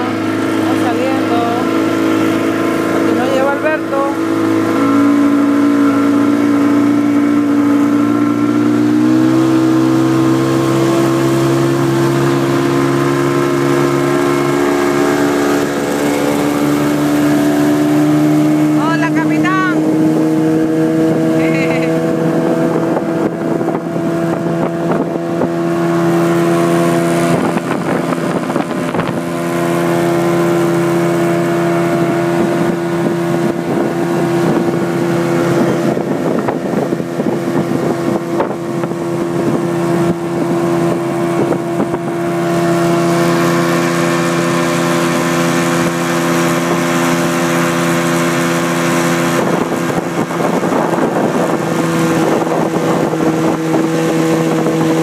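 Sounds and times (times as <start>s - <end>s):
outboard motor humming: 0.0s - 55.0s
wind and water hiss: 0.0s - 55.0s.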